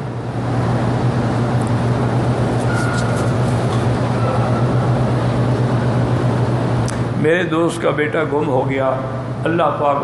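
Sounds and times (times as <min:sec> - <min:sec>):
room noise: 0:00.0 - 0:10.0
steady low hum: 0:00.0 - 0:10.0.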